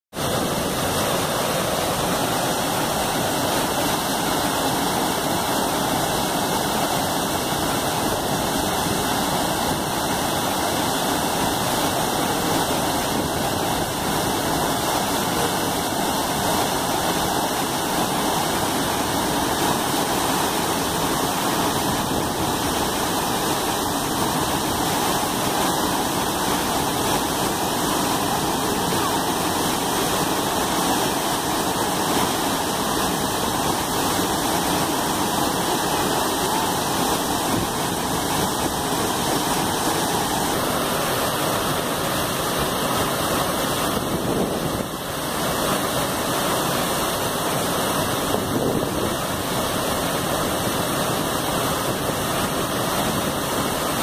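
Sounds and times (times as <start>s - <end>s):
waterfall roaring: 0.2s - 54.0s.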